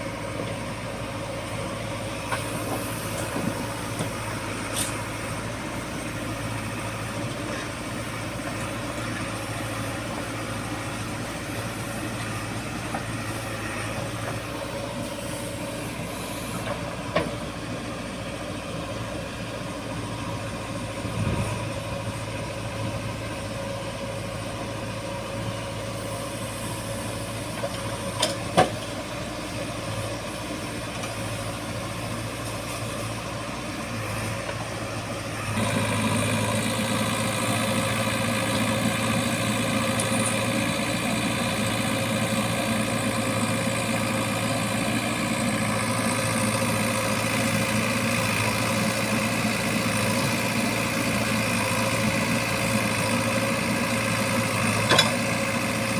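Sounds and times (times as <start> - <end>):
diesel engine of heavy machinery: 0.0 - 55.9.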